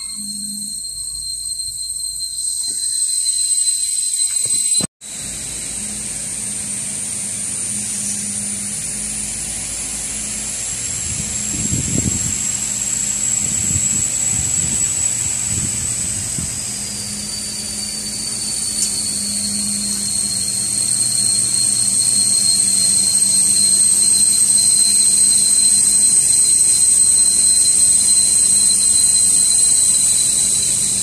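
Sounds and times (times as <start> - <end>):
machine drone with high whine: 0.0 - 31.0.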